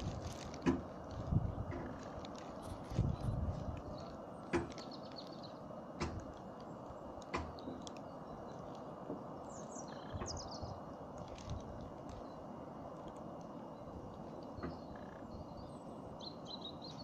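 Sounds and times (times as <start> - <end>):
outdoor hiss: 0.0 - 17.0
small birds chirping: 0.0 - 17.0.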